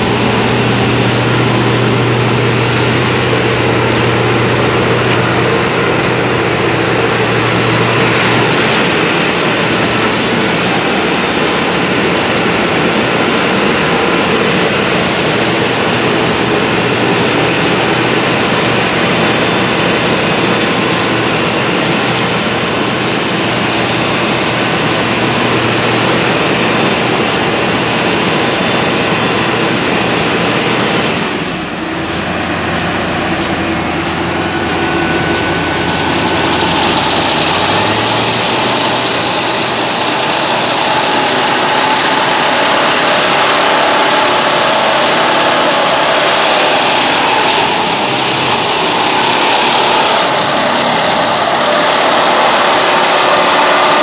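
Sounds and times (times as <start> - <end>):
diesel engine and hydraulics: 0.0 - 54.0.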